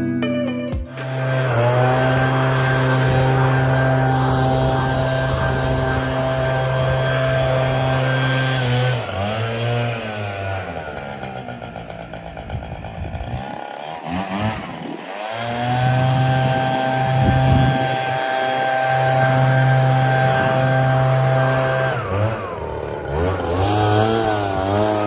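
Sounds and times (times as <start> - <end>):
leaf blower engine: 0.8 - 25.0.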